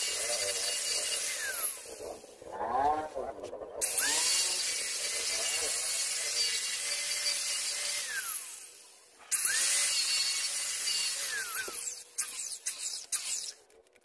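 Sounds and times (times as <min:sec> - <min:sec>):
angle grinder grinding metal: 0:00.0 - 0:13.8.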